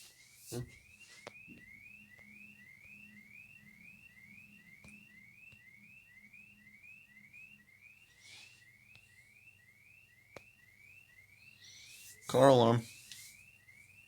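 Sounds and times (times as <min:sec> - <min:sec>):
car alarm whooping: 0:00.6 - 0:14.0.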